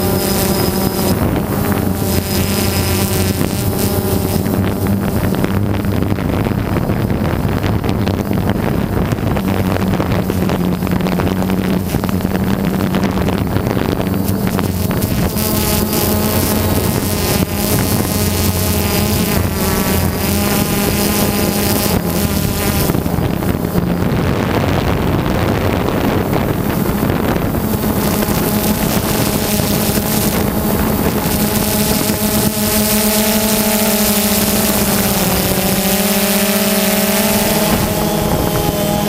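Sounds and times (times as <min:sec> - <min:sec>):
drone propellers whining: 0:00.0 - 0:39.0
wind noise: 0:00.0 - 0:39.0.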